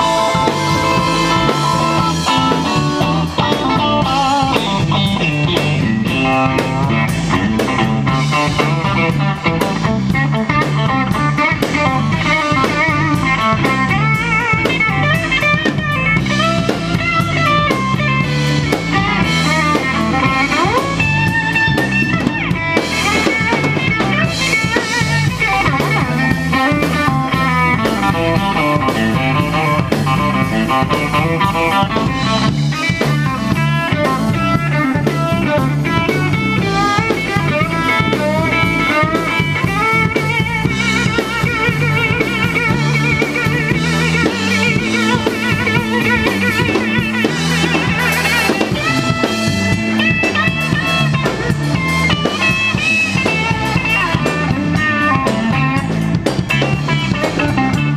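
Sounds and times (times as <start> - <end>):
drum kit: 0.0 - 57.9
electric guitar lead: 0.0 - 57.9
live blues band: 0.0 - 57.9.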